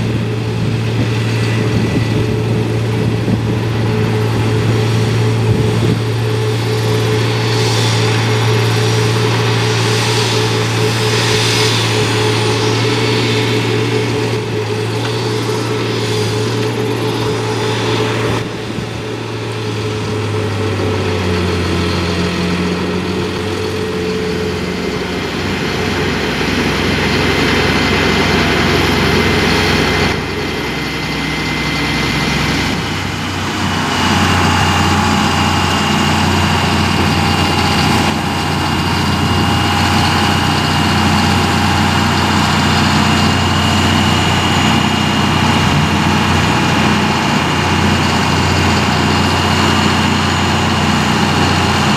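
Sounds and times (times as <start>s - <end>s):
heavy machine engine running: 0.0s - 51.9s
steady high whine: 0.0s - 51.9s.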